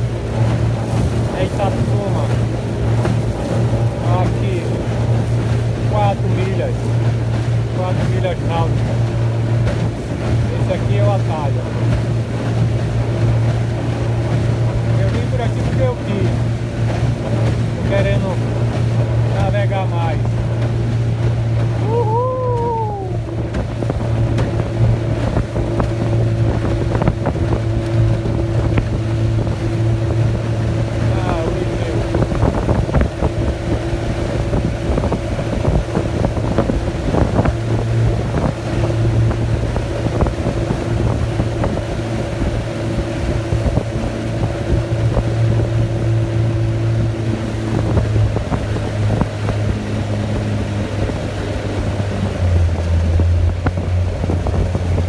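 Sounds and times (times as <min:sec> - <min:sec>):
outboard motor running: 0:00.0 - 0:55.0
water rushing: 0:00.0 - 0:55.0
wind: 0:00.0 - 0:55.0.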